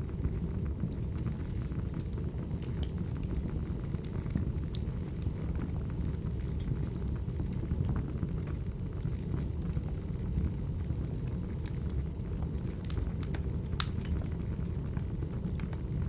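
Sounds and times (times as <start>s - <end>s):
wood fire burning with crackles: 0.0s - 16.0s.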